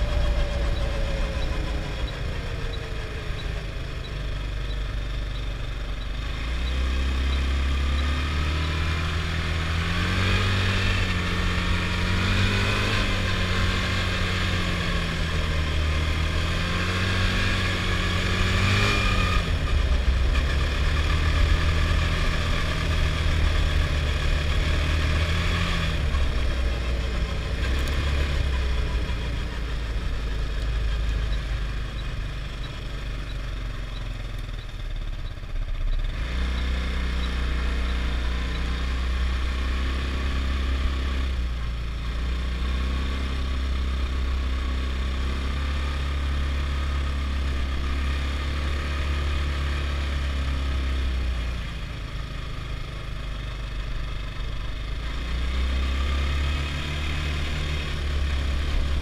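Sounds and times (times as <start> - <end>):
quad engine running: 0.0 - 59.0.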